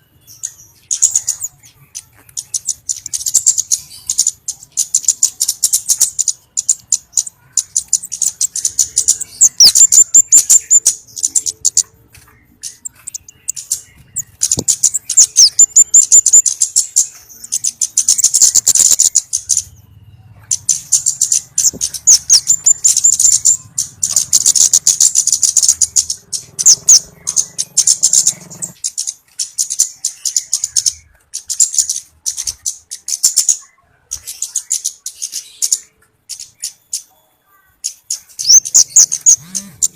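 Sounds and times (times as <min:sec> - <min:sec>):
flowerpecker chips and trills: 0:00.0 - 0:39.9.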